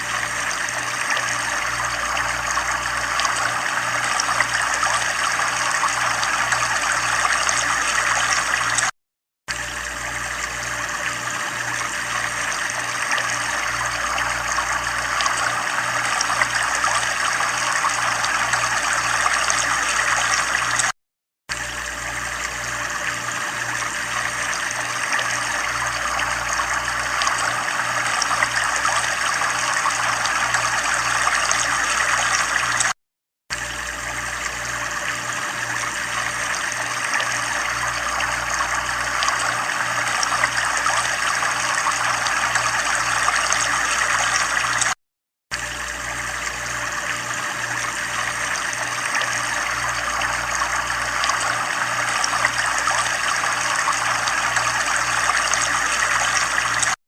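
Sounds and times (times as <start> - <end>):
running water trickling: 0.0 - 8.9, 9.5 - 20.9, 21.5 - 57.0.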